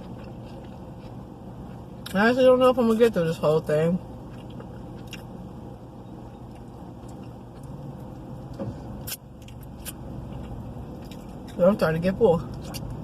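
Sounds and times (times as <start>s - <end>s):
low hum inside car cabin: 0.0s - 13.0s.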